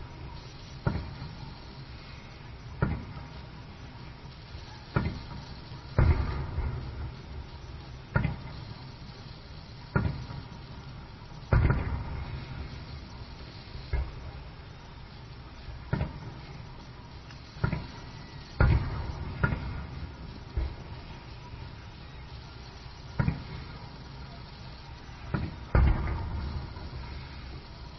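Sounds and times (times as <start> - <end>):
firework shells bursting: 0.0 - 27.9.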